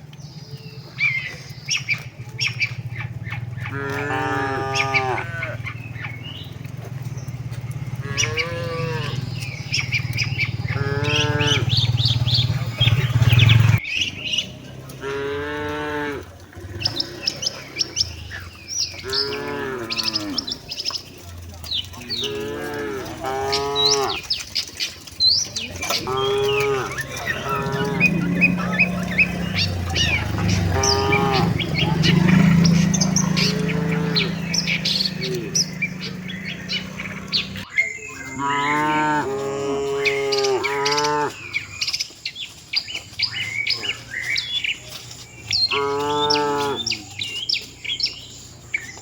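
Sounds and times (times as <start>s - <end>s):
small birds chirping: 0.0s - 49.0s
cattle mooing: 1.9s - 13.8s, 14.9s - 37.6s, 38.2s - 41.7s, 45.6s - 47.2s.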